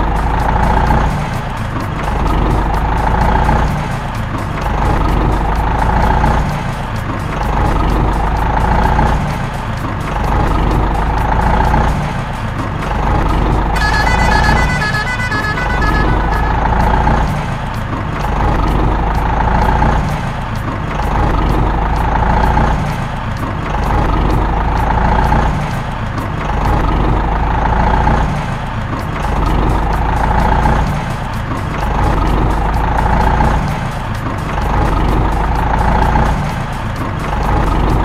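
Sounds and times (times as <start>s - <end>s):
truck engine rumble: 0.0s - 38.0s.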